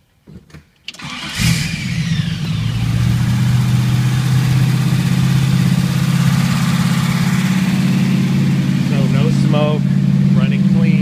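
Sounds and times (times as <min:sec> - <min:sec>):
car engine starting and idling: 0:00.9 - 0:11.0.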